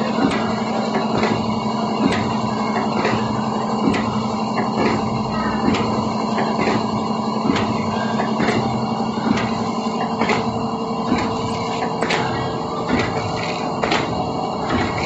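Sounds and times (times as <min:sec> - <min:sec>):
filling machine humming: 0:00.0 - 0:15.0.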